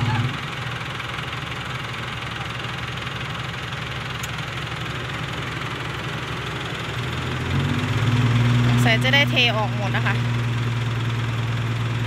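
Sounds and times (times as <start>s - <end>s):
dump truck engine under load: 0.0s - 12.0s
tractor diesel engine: 0.0s - 12.0s.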